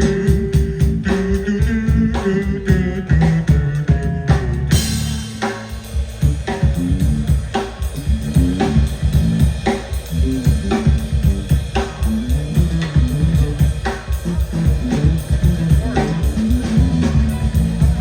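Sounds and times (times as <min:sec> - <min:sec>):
drum kit playing: 0:00.0 - 0:18.0
low bass notes: 0:00.0 - 0:18.0.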